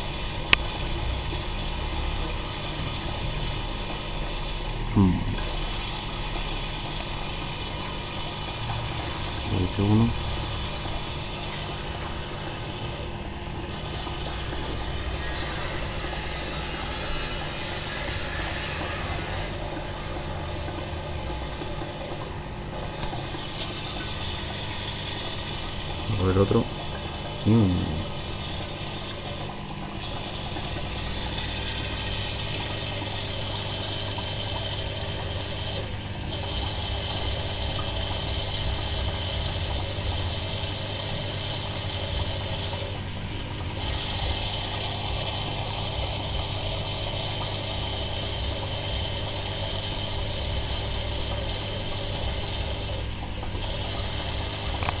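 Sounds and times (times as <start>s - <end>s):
electric hum: 0.0s - 55.0s.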